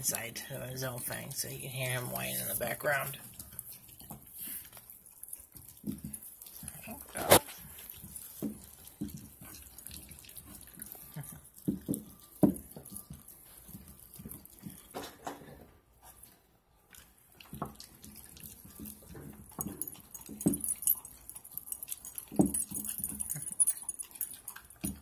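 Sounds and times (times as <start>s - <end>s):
puppies licking and smacking: 0.0s - 25.0s.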